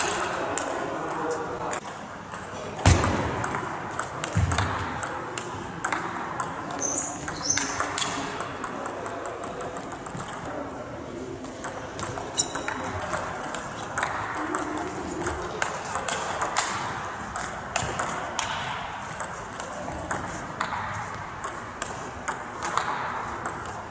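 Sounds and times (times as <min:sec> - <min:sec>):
table tennis ball clicking: 0:00.0 - 0:10.6, 0:11.4 - 0:23.9.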